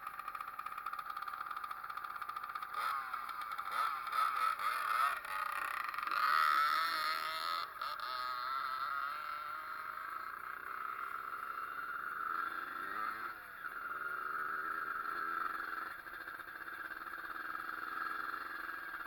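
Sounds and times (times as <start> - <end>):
small two-stroke engine running: 0.0 - 19.0.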